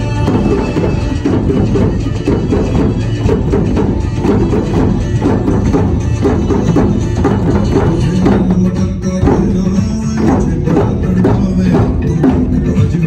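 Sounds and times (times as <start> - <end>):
hand drums playing: 0.0 - 13.0.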